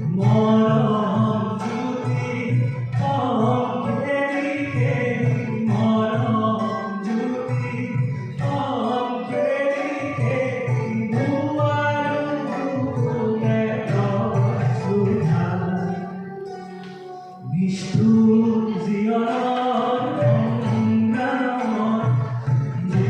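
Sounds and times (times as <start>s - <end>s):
song through small pa system: 0.0s - 23.0s.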